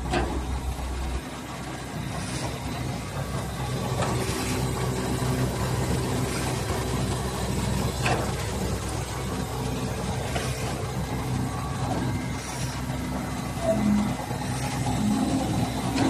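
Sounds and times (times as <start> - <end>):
hemming machine humming: 0.0 - 16.0.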